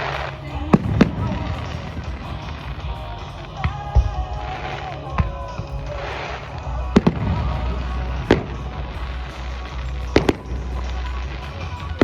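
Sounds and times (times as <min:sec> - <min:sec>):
fireworks bangs: 0:00.0 - 0:12.0
music with steady bass: 0:00.0 - 0:12.0.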